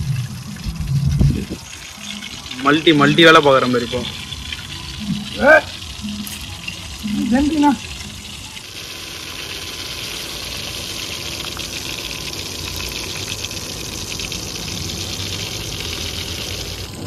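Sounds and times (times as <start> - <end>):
patties deep-frying in oil: 0.0 - 17.0.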